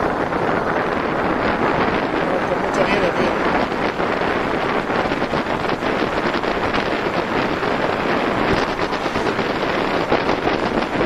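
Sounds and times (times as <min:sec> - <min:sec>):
wind roaring on microphone: 0:00.0 - 0:11.0.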